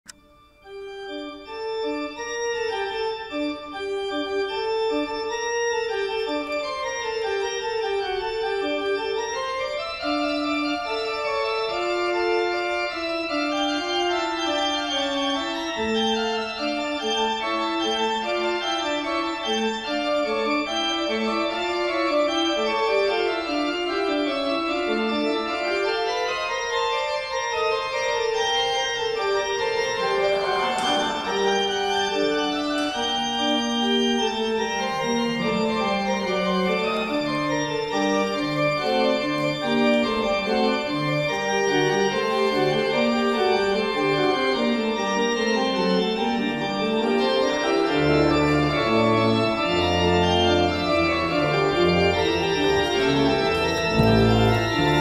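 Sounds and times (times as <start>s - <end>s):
pipe organ playing slow music: 0.1s - 55.0s.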